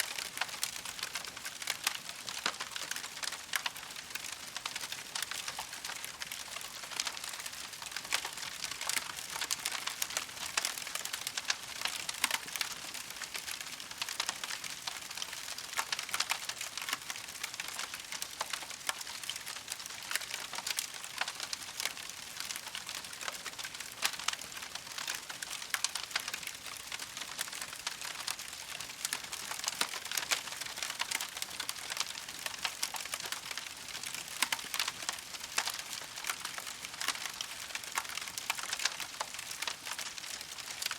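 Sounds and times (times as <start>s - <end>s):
campfire crackling: 0.1s - 40.9s.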